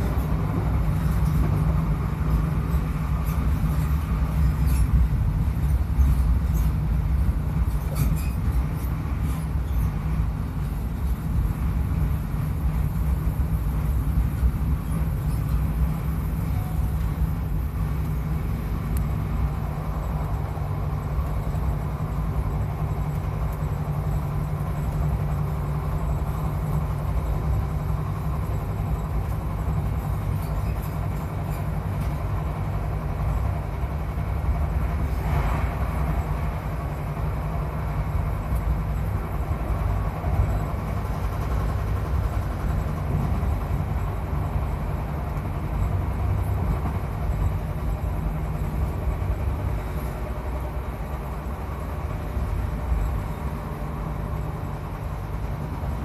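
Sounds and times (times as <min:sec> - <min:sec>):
train rumble from inside carriage: 0:00.0 - 0:56.0.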